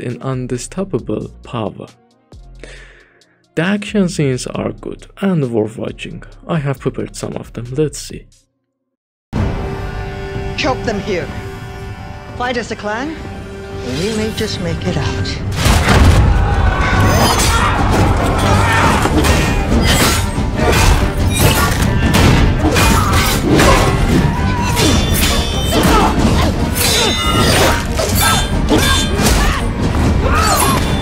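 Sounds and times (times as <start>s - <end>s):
dramatic film music: 0.0s - 8.4s, 9.4s - 31.0s.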